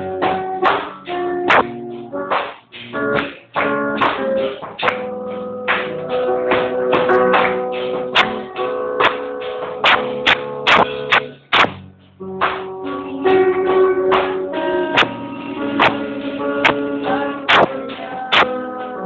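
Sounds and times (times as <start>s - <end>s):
electric guitar strumming chords: 0.0s - 19.0s.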